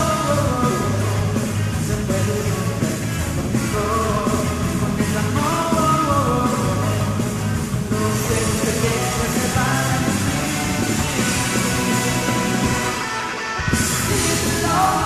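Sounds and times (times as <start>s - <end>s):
man singing rock song: 0.0s - 15.0s
rock band playing: 0.0s - 15.0s.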